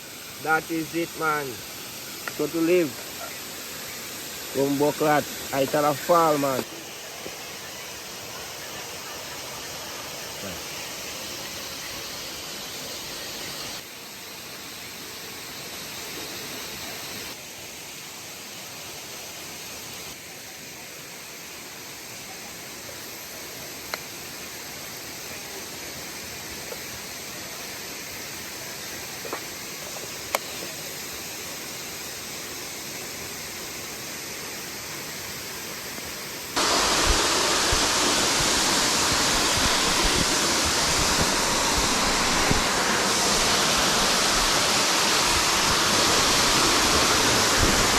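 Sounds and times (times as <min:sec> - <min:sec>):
waterfall rushing: 0:00.0 - 0:14.2, 0:22.3 - 0:47.9.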